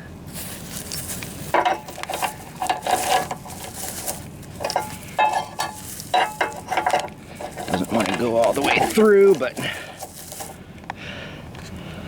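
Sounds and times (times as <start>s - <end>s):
metal chain clinking and rattling: 0.8s - 10.6s.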